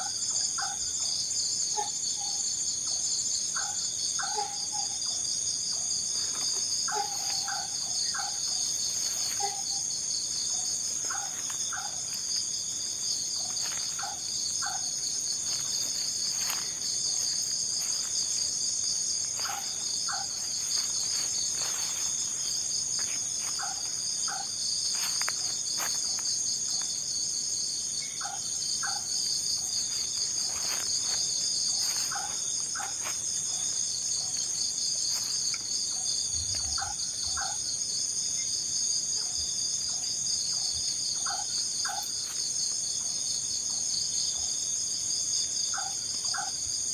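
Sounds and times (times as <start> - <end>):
crickets and insects trilling: 0.0 - 46.9.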